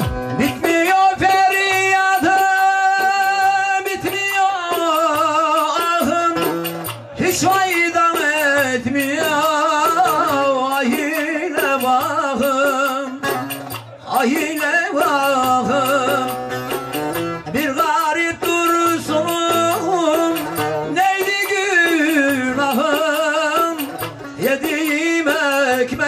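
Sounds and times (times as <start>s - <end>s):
man singing ornamented notes: 0.0s - 26.0s
plucked lute: 0.0s - 26.0s.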